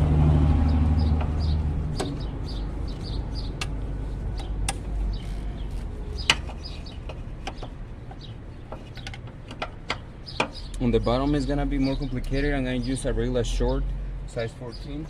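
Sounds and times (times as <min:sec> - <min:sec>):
birds chirping: 0:00.3 - 0:15.0.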